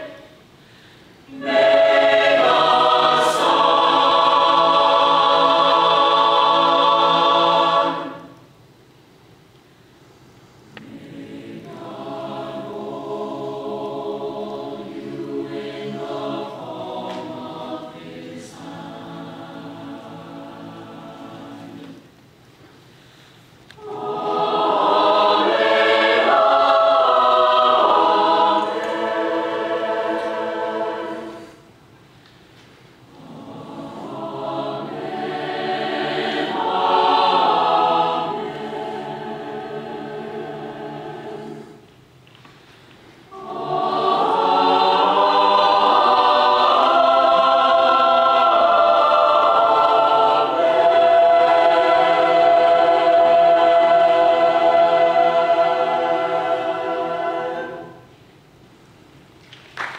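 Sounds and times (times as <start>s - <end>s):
choir singing: 0.0s - 0.5s, 1.3s - 8.4s, 10.7s - 22.1s, 23.7s - 31.8s, 33.0s - 41.9s, 43.2s - 58.5s.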